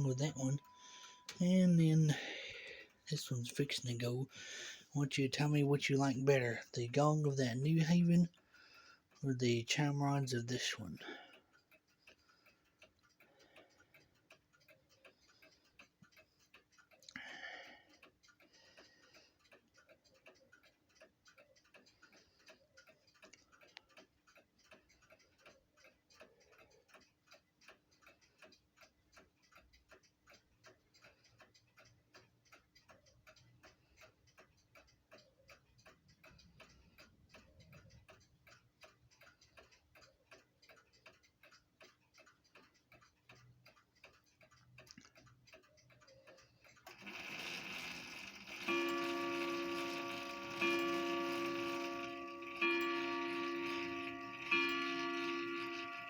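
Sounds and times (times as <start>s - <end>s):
mantel clocks ticking: 0.0s - 56.0s.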